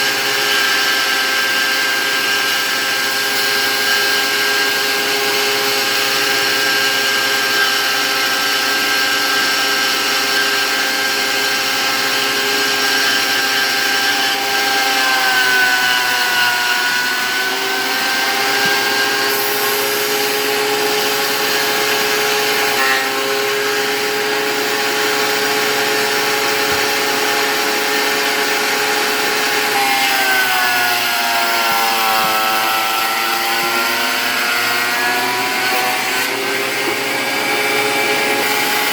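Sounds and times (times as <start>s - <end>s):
thickness planer motor whine: 0.0s - 38.9s.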